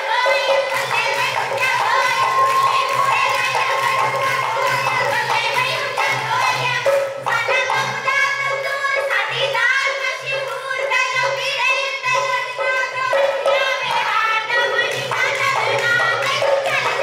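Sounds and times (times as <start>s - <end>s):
women singing folk songs: 0.0s - 17.0s.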